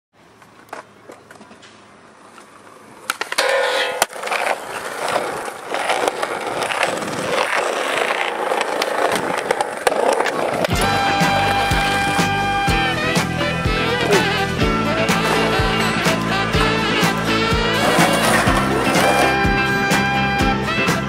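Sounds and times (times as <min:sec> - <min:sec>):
skateboard wheels rolling on concrete: 0:00.2 - 0:21.0
skateboard clacks: 0:00.3 - 0:21.0.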